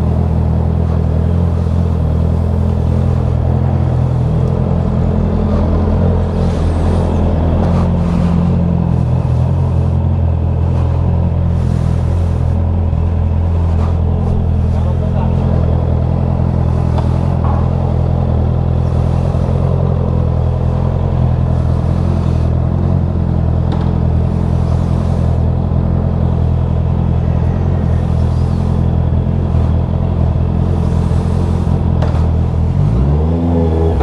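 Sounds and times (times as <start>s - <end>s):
engine droning steadily: 0.0s - 34.0s.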